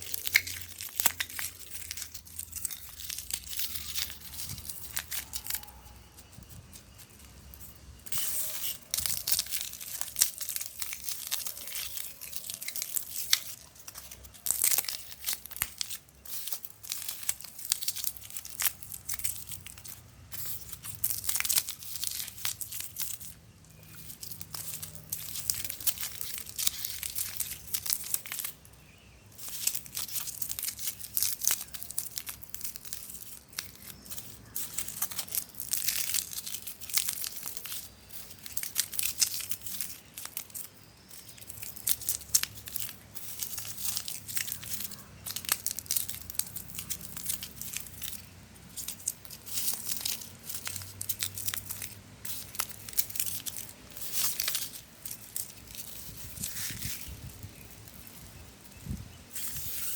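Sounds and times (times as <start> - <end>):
foam board crackling and tearing: 0.0 - 59.9.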